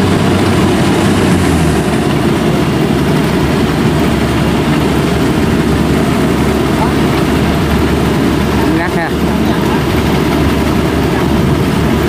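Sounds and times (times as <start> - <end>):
farm machinery engine running: 0.0 - 12.0.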